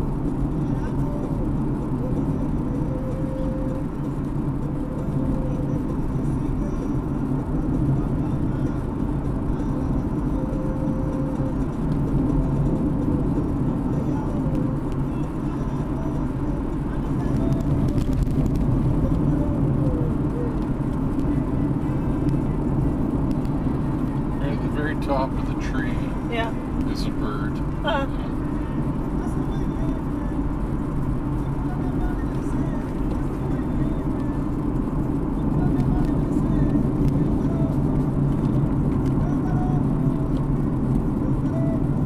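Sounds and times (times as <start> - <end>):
car engine and tyre noise: 0.0 - 42.0.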